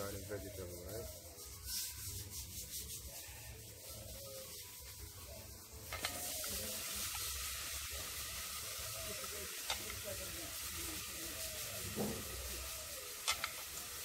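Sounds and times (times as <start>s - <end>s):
vegetables sizzling in butter: 0.0s - 14.0s.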